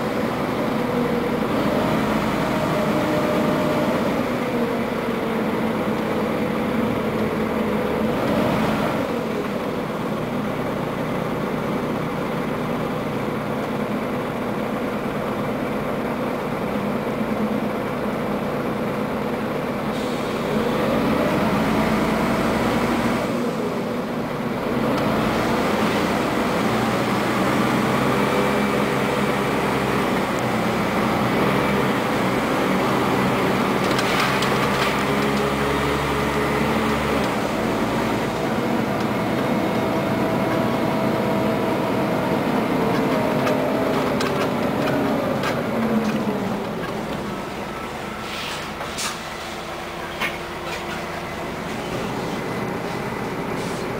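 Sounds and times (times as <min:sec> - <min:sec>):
bus diesel engine running: 0:00.0 - 0:53.9
road noise: 0:00.0 - 0:53.9.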